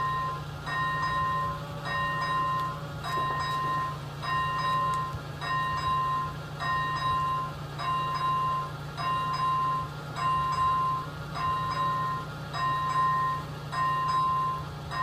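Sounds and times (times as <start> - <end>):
level crossing bell ringing: 0.0 - 15.0
steady low hum: 0.0 - 15.0.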